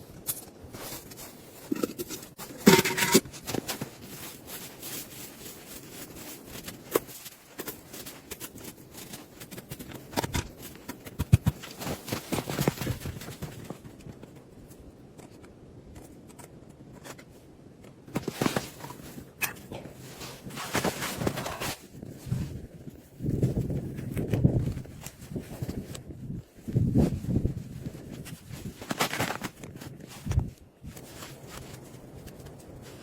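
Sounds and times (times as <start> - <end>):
rustling and scraping: 0.0 - 33.0.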